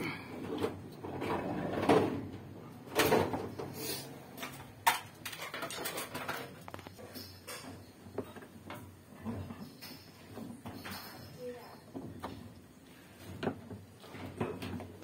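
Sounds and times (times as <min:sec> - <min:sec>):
plastic parts scraping and knocking: 0:00.3 - 0:10.9, 0:11.9 - 0:15.0.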